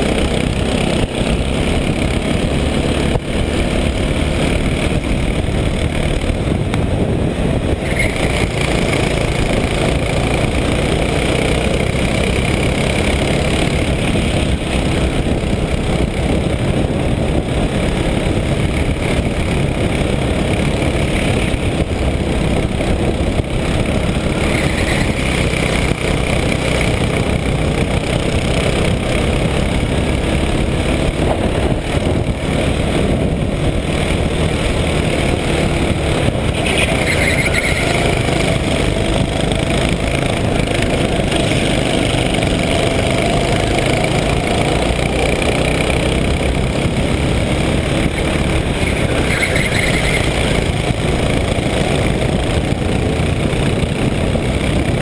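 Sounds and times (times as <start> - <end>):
go-kart engine running hard: 0.0 - 55.0.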